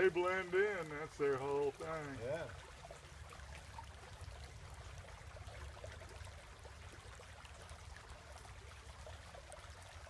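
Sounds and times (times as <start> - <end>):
creek trickling over stones: 0.0 - 10.0.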